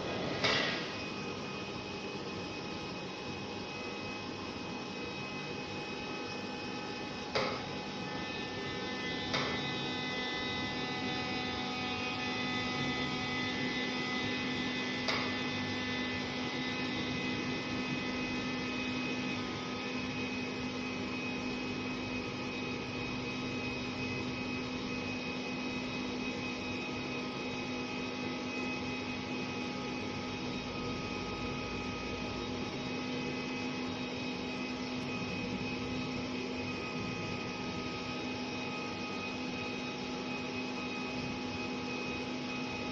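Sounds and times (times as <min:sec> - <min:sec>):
electrical hum of machine: 0:00.0 - 0:42.9.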